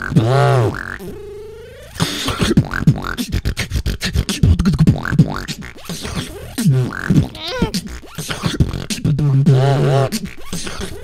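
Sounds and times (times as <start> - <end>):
beatboxing into a microphone: 0.0 - 1.2, 1.9 - 11.0.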